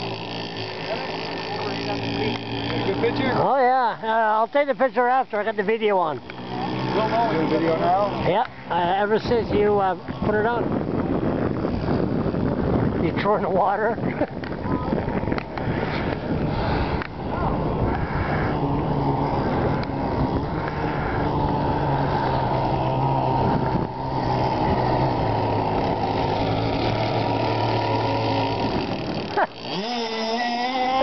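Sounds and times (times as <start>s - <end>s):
model boat motor whine: 0.0s - 31.0s
wind noise on microphone: 6.0s - 31.0s.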